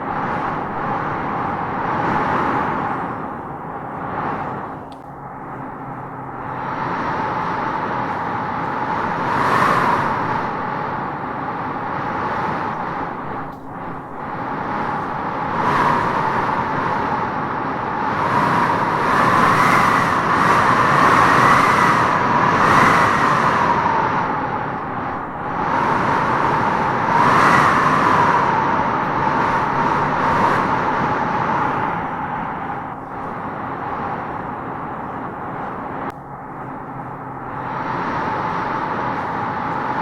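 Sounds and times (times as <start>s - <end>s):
wind gusting through trees: 0.0s - 40.0s.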